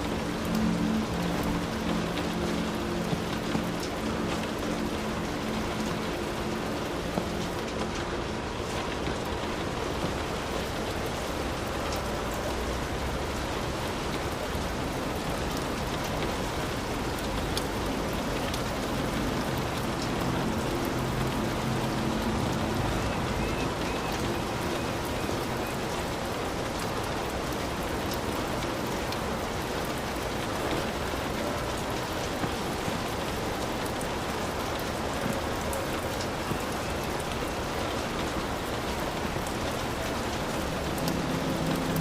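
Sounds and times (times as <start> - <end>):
heavy rain: 0.0 - 42.0
raindrops tapping close by: 0.0 - 42.0.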